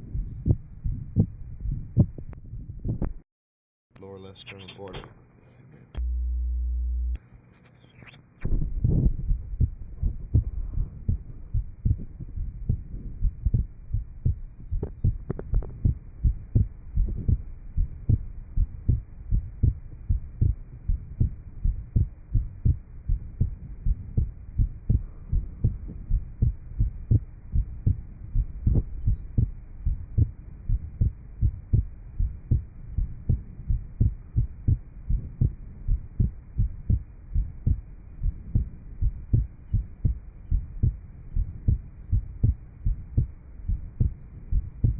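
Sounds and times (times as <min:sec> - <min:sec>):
heartbeat thuds: 0:00.0 - 0:03.2, 0:08.4 - 0:44.9
sharp heart clicks: 0:00.0 - 0:03.2, 0:08.4 - 0:44.9.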